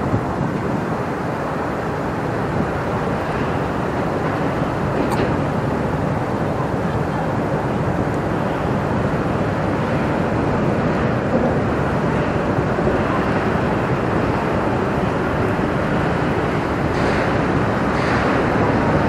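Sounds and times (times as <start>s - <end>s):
ship engine running: 0.0s - 19.0s
wind on microphone: 0.0s - 19.0s.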